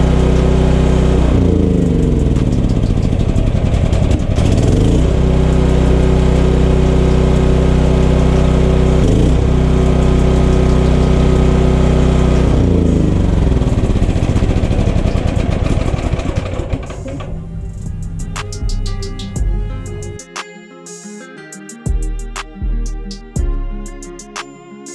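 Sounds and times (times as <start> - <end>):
generator engine running: 0.0 - 20.3.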